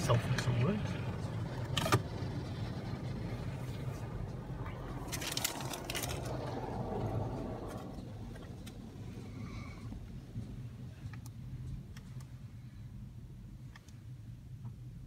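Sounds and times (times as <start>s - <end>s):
muffled car wash hum: 0.0s - 15.0s.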